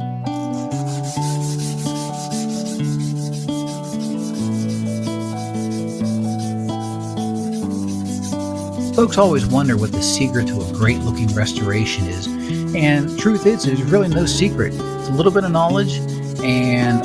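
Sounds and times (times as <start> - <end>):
instrumental music: 0.0 - 17.0
sandpaper rubbing on steel: 0.3 - 17.0.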